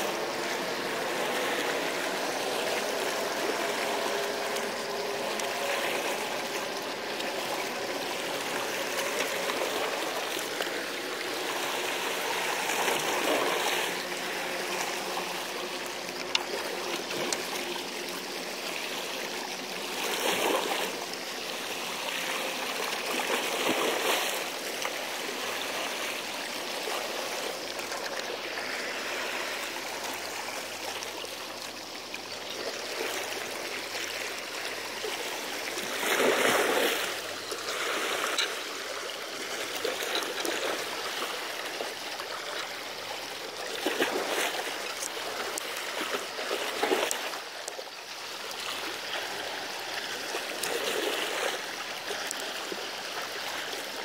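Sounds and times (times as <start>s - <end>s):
seawater washing against embankment: 0.0s - 54.0s.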